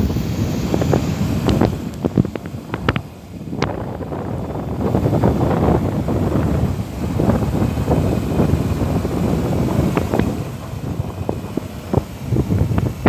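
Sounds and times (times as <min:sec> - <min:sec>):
tyres rumbling on dirt road: 0:00.0 - 0:13.0
wind buffeting microphone: 0:00.0 - 0:13.0.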